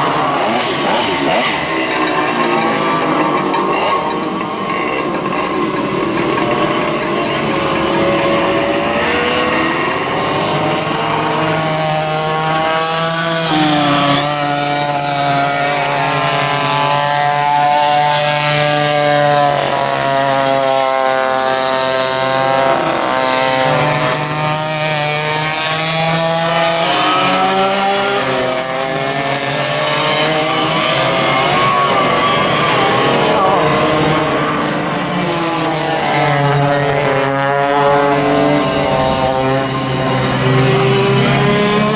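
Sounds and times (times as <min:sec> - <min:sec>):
go-kart engines racing: 0:00.0 - 0:41.9.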